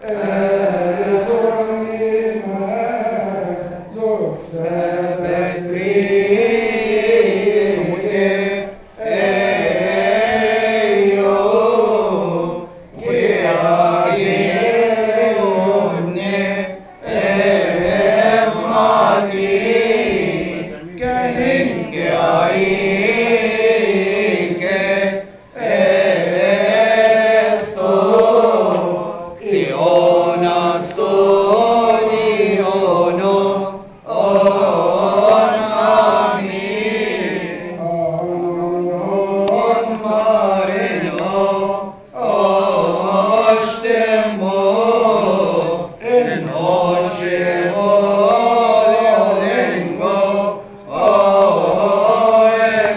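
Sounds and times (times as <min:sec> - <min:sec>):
men chanting a hymn: 0:00.0 - 0:52.9.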